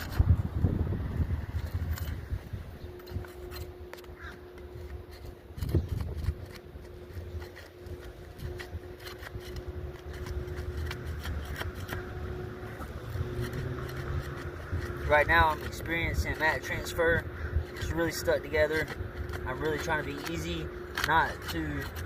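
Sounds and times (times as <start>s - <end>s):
low rumble: 0.0s - 17.9s
steady hum: 0.0s - 22.0s
shingles scraping and clicking: 1.5s - 22.0s.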